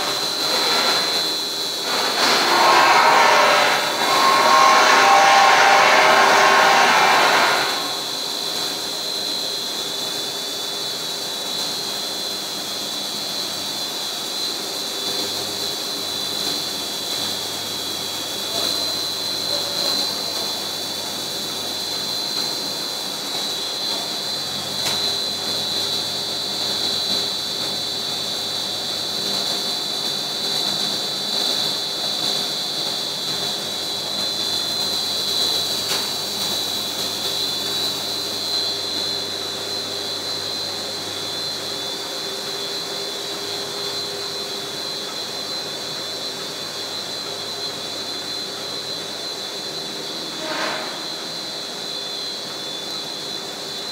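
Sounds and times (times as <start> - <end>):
high-pitched whine: 0.0 - 53.9
industrial machine drone: 0.0 - 53.9.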